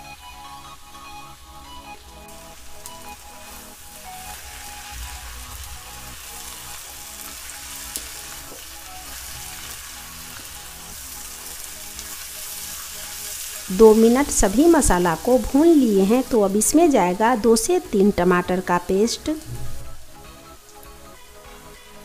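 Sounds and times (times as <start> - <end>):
onions sizzling in oil: 0.0 - 22.0.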